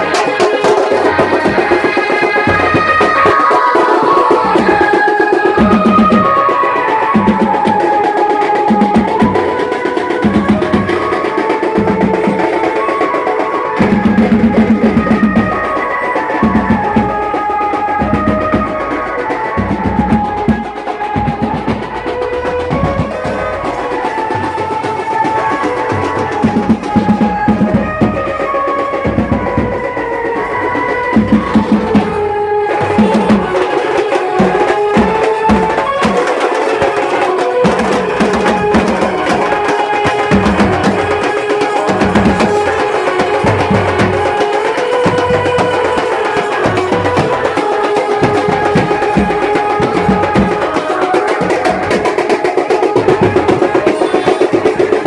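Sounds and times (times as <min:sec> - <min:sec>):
steady drumming: 0:00.0 - 0:55.0.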